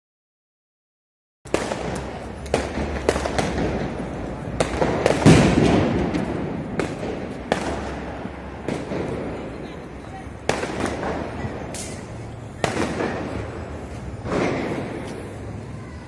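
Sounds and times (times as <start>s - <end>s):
firecracker bangs: 1.5s - 15.7s
firecracker crackle: 1.5s - 16.0s.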